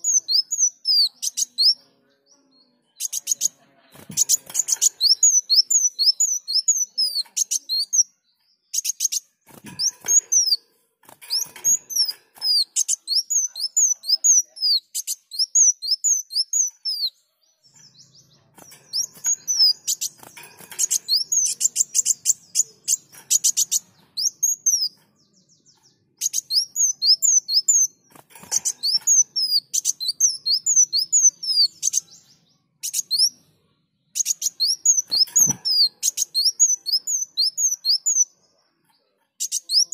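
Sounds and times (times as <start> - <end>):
sunbird singing trills: 0.0 - 3.6, 4.2 - 10.6, 11.3 - 33.4, 34.1 - 39.9.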